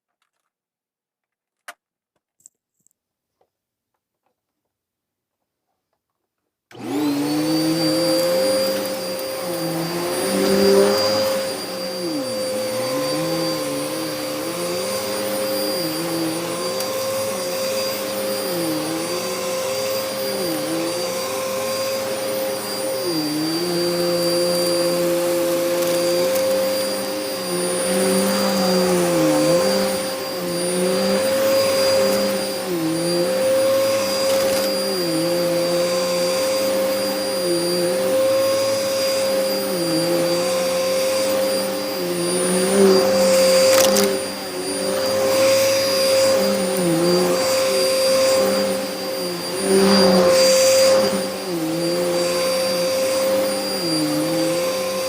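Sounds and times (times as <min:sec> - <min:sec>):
vacuum cleaner whining: 0:06.7 - 0:55.0.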